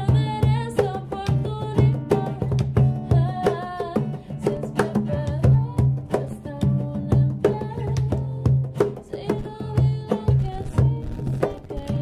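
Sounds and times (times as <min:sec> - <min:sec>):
acoustic guitar strumming: 0:00.0 - 0:12.0
hand percussion: 0:00.0 - 0:12.0
woman singing: 0:00.0 - 0:12.0.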